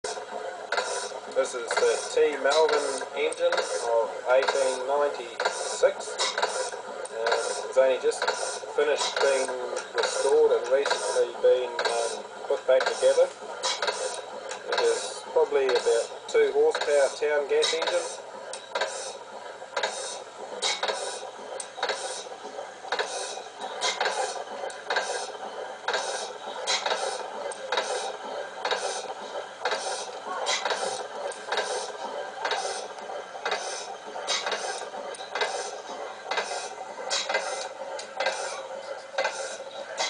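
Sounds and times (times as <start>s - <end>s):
gas engine running slowly: 0.0s - 40.0s.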